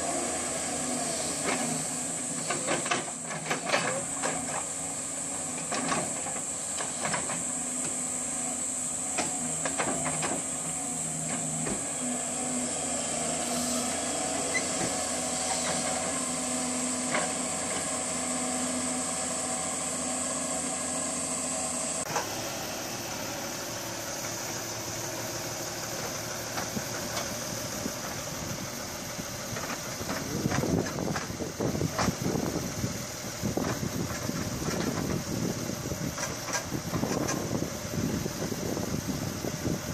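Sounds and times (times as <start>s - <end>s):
steady high hiss: 0.0s - 36.8s
excavator diesel engine running: 0.0s - 39.9s.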